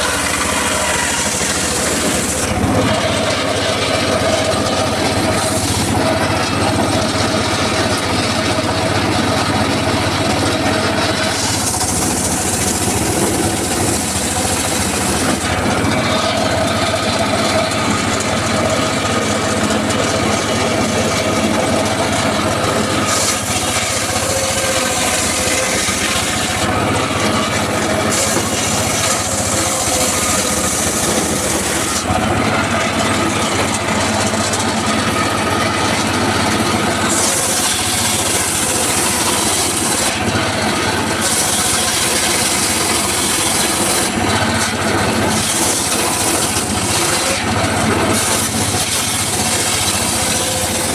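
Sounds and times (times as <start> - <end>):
circular saw blade cutting wood: 0.0 - 50.9
engine droning: 0.0 - 50.9.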